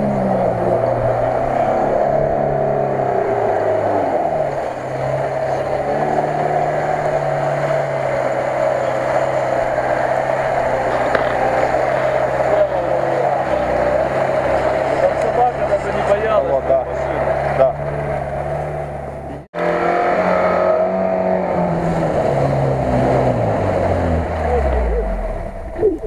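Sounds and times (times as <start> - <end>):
water splashing: 0.0 - 19.2, 21.3 - 26.0
car engine under load: 0.0 - 26.0.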